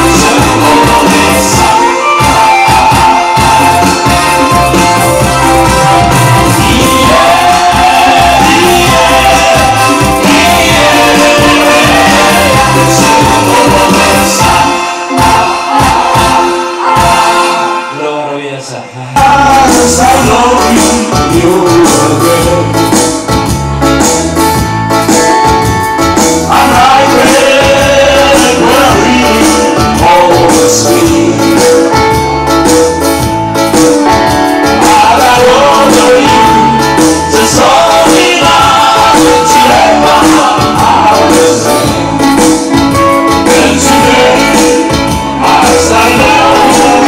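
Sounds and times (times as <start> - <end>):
dance music with steady beat: 0.0 - 17.9, 19.2 - 47.0.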